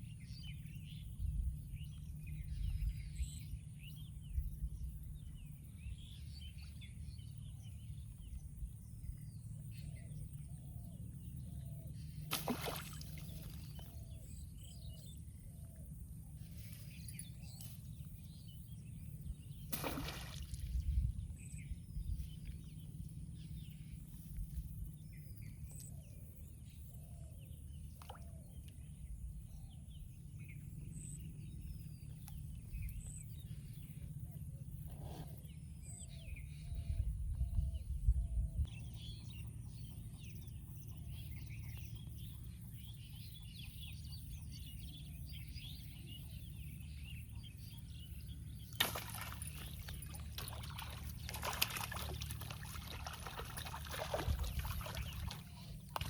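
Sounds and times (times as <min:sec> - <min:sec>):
steady low rumble: 0:00.0 - 0:12.3, 0:12.9 - 0:56.0.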